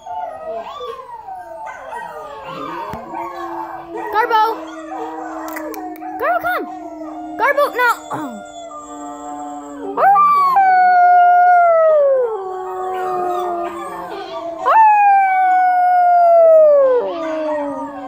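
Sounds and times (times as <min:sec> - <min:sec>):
dog howling: 0:00.0 - 0:18.0.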